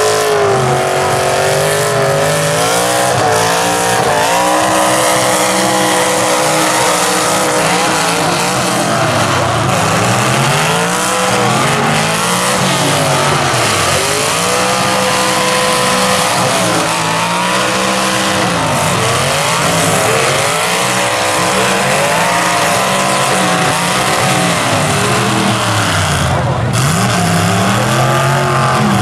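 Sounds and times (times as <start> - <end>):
car engines revving hard: 0.0 - 29.0
cars ramming: 0.0 - 29.0.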